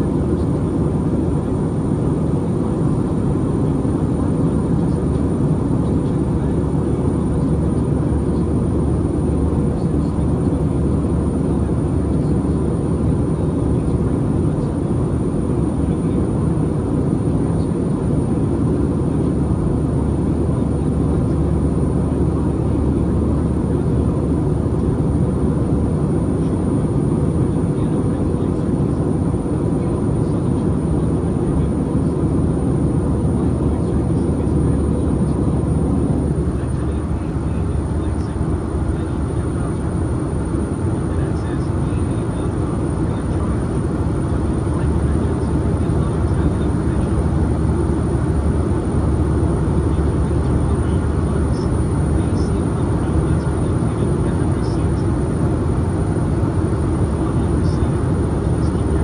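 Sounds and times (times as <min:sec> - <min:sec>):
airliner cabin engine rumble: 0:00.0 - 0:59.0.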